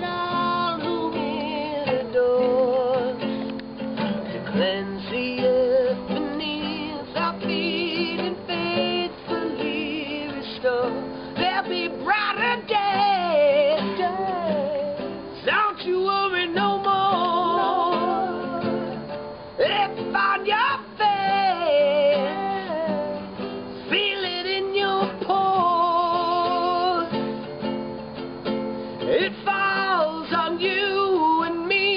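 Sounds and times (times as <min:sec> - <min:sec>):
person singing: 0:00.0 - 0:03.6, 0:04.5 - 0:27.4, 0:29.0 - 0:31.9
strummed acoustic guitar: 0:00.0 - 0:31.9.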